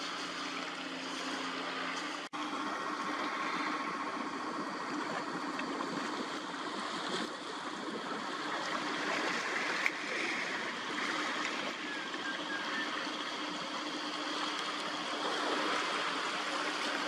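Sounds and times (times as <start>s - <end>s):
faint steady hum: 0.0s - 17.0s
rushing outdoor background noise: 0.0s - 17.0s.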